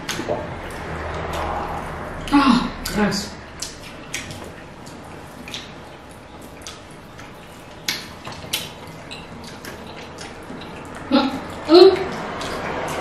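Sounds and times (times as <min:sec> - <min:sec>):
wet chewing and squelching: 0:00.0 - 0:13.0.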